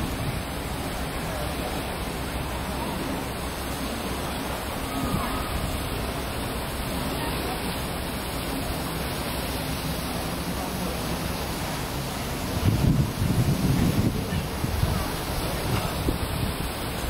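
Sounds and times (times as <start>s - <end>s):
faint voices: 0.0s - 17.0s
steady rushing noise: 0.0s - 17.0s.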